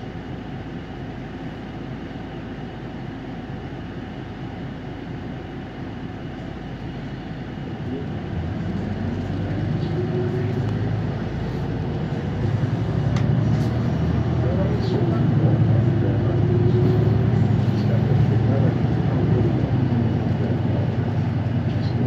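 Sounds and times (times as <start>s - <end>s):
bus engine humming and revving: 0.0s - 22.0s.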